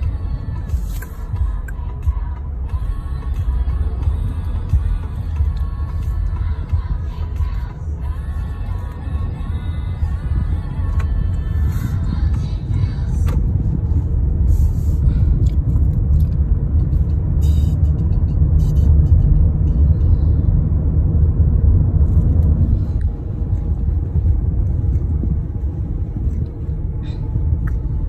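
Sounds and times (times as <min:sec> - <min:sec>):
car interior rumble: 0:00.0 - 0:28.0.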